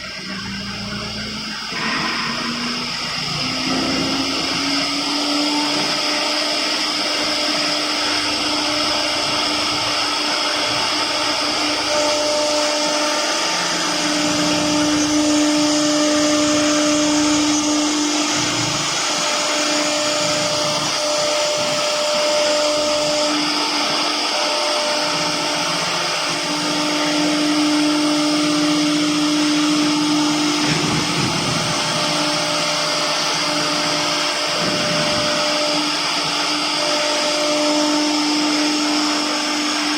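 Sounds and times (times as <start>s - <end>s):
wood router whining while cutting: 0.0s - 39.9s.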